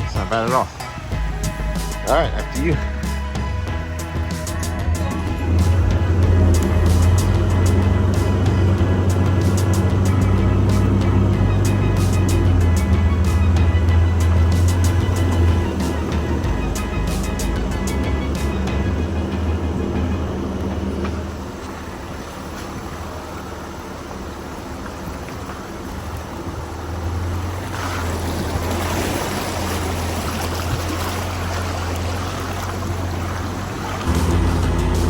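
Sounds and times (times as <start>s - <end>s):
truck engine running slowly: 0.0s - 35.0s
water splashing and rushing: 0.0s - 35.0s.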